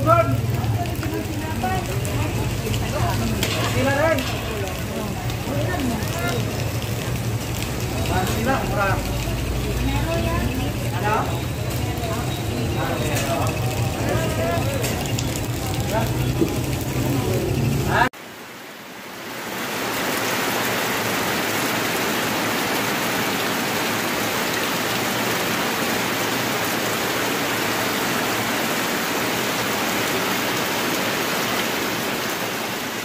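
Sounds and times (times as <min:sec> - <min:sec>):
heavy rain on concrete: 0:00.0 - 0:33.0.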